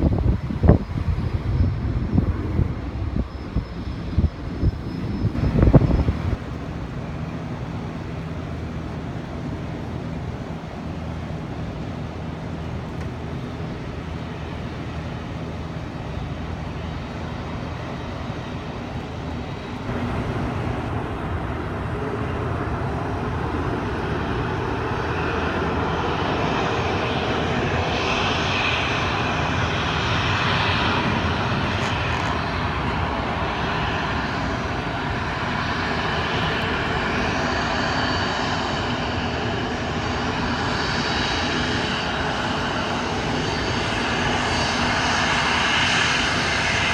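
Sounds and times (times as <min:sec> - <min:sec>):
wind buffeting microphone: 0:00.0 - 0:10.2, 0:14.0 - 0:46.9
faint high whine: 0:00.0 - 0:46.9
jet engines roaring: 0:00.0 - 0:46.9.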